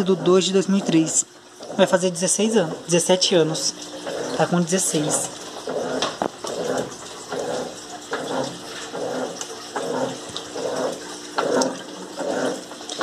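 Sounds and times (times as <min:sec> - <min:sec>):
washing machine water sloshing: 0:00.0 - 0:13.0.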